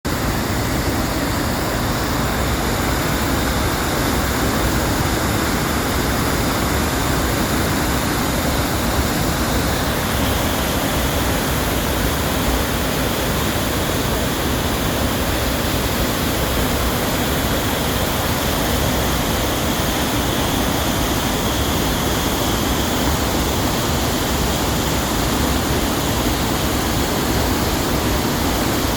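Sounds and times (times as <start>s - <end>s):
waterfall rushing: 0.1s - 28.9s.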